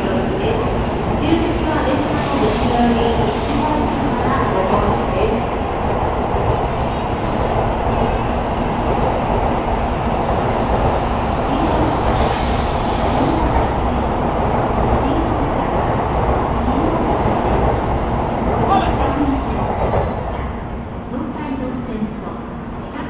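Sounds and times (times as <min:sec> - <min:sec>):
train passing with rumble and rush: 0:00.0 - 0:23.0.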